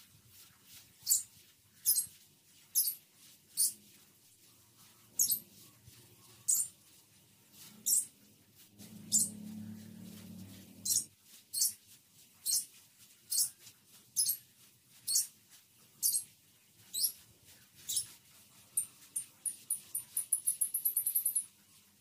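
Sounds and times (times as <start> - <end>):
broom sweeping sand: 0.0 - 19.7.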